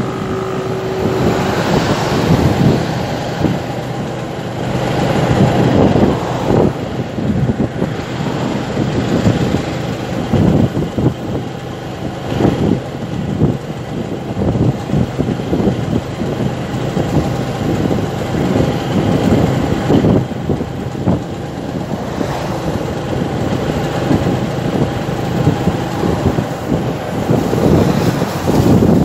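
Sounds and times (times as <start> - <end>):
motorcycle engine: 0.0 - 29.0
road noise: 0.0 - 29.0
wind buffeting microphone: 0.0 - 29.0.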